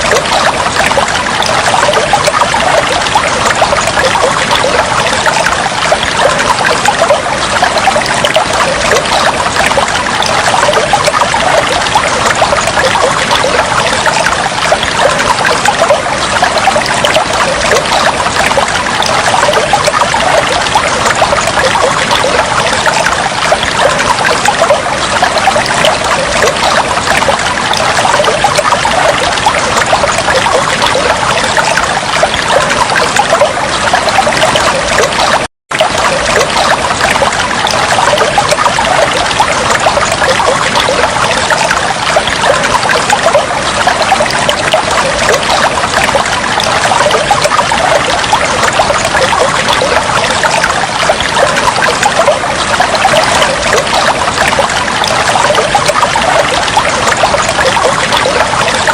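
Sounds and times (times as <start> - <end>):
water trickling and flowing: 0.0 - 58.9.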